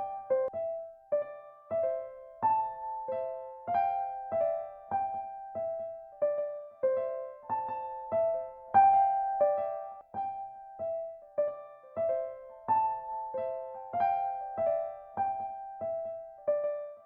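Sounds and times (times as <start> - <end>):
electronic keyboard slow melody: 0.0 - 17.0.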